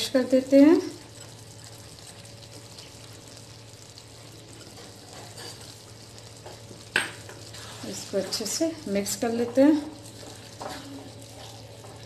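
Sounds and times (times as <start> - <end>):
gravy sizzling in a metal pan: 0.0 - 12.0
spatula moving in pan: 0.8 - 12.0.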